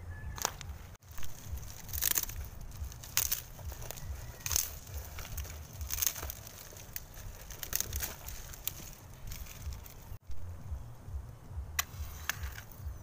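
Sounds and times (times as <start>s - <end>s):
dry sticks snapping: 0.4s - 10.2s, 11.8s - 12.8s.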